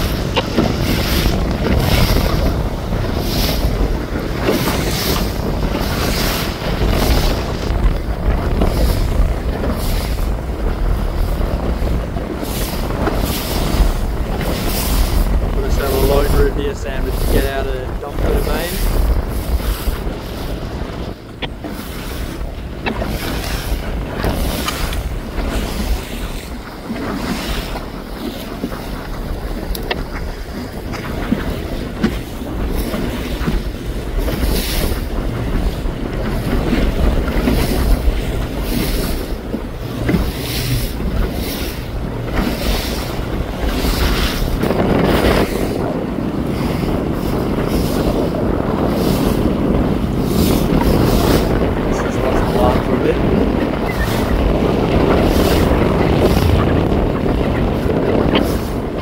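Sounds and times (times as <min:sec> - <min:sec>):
steady low rumble: 0:00.0 - 0:59.0
water and waves rushing: 0:00.0 - 0:59.0
wind buffeting microphone: 0:00.0 - 0:59.0.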